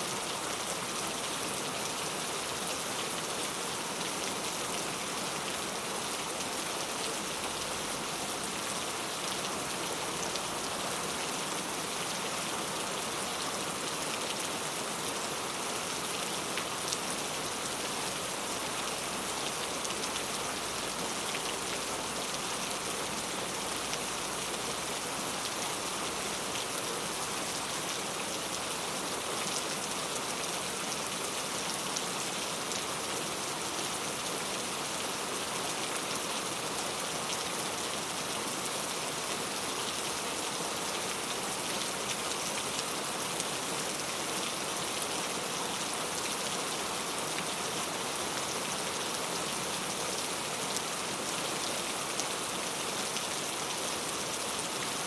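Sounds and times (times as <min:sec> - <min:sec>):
heavy rain on street: 0:00.0 - 0:55.0.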